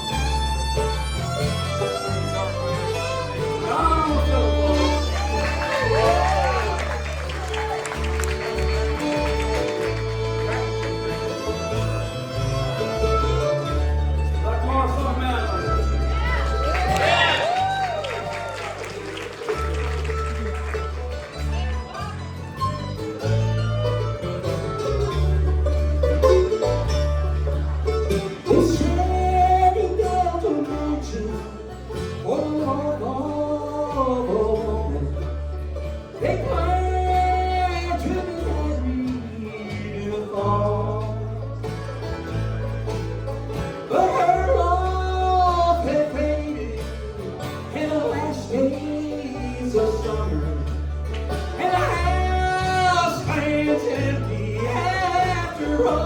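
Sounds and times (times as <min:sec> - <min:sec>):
banjo: 0:00.0 - 0:56.0
bass line: 0:00.0 - 0:56.0
bluegrass band playing: 0:00.0 - 0:56.0
guitar: 0:00.0 - 0:56.0.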